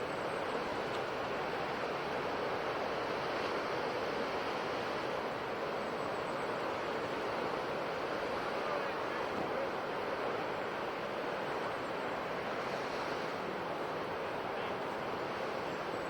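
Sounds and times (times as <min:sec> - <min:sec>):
ocean waves on shore: 0:00.0 - 0:16.0.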